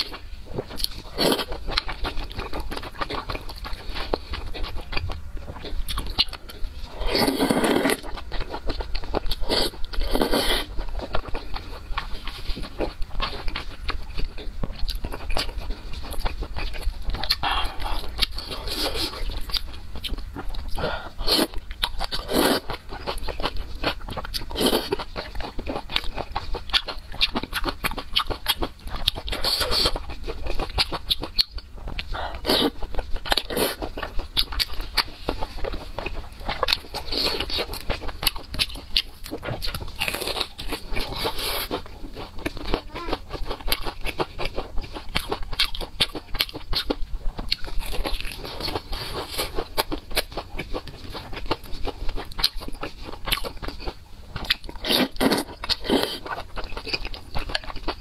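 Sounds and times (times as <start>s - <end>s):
chewing noodles: 0.0s - 58.0s.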